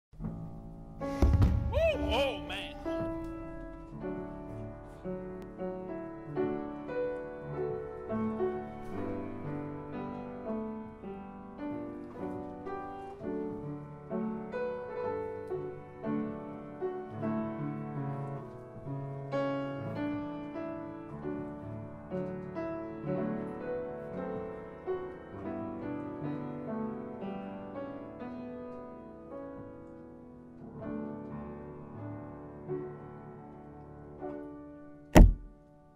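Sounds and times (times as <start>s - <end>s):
piano music: 0.2s - 35.9s.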